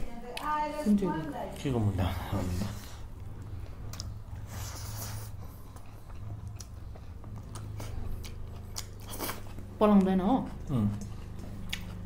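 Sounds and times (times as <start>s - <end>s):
chewing and mouth sounds: 0.0s - 12.0s
steady low hum: 0.0s - 12.0s.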